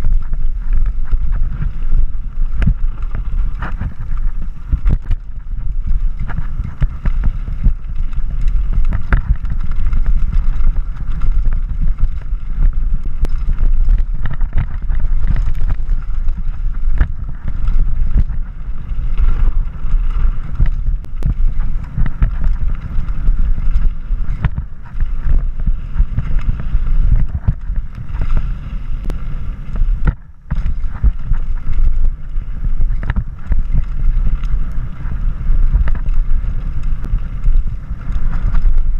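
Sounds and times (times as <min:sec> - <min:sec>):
bike knocking and rattling: 0:00.0 - 0:38.9
wind buffeting microphone: 0:00.0 - 0:38.9.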